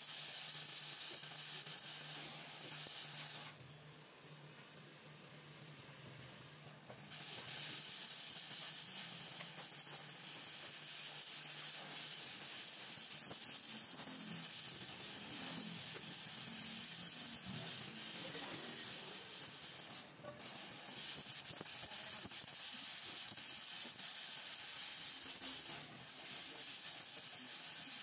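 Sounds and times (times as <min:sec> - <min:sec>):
welding torch flame hissing: 0:00.0 - 0:04.0, 0:05.2 - 0:28.0.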